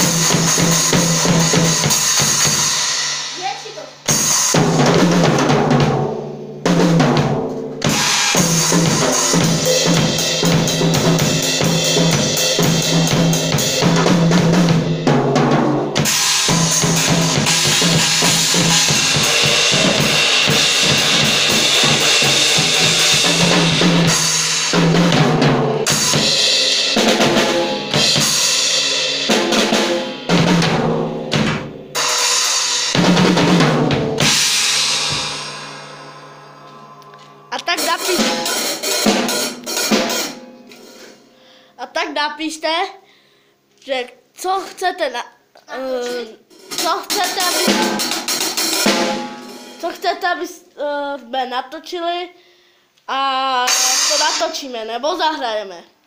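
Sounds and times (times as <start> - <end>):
rock drum kit beat: 0.0 - 41.5, 46.4 - 50.1, 53.7 - 54.6.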